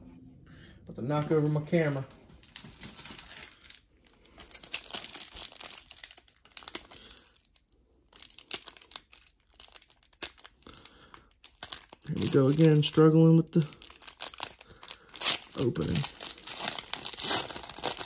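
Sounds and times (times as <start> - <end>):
wrapper crinkling and tearing: 1.3 - 18.0.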